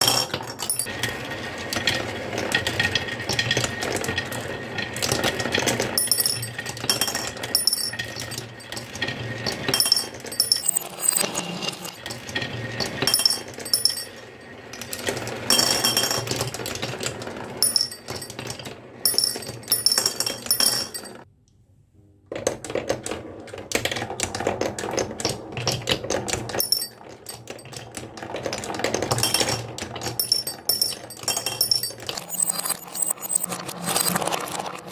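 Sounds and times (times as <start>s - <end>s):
marbles rolling and clattering: 0.0s - 21.3s, 22.4s - 34.9s.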